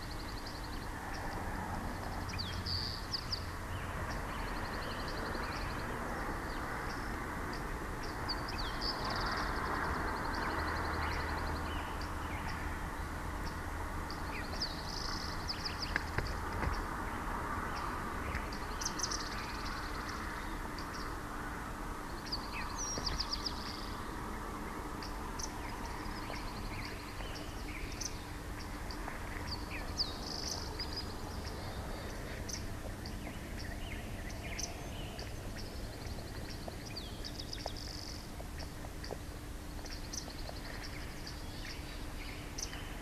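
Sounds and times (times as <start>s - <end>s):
low outdoor rumble: 0.0s - 43.0s
small birds trilling and chirping: 0.0s - 43.0s.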